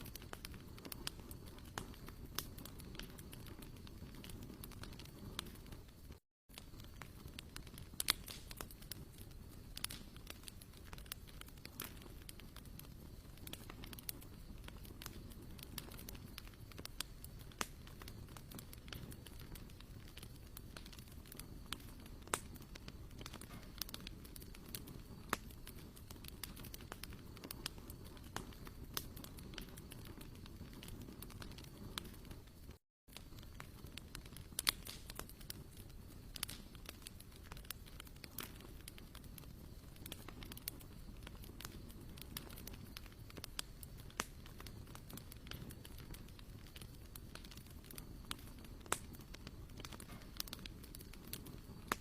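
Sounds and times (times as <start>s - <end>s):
campfire crackling and popping: 0.0s - 52.0s
low rumble of burning: 0.0s - 52.0s.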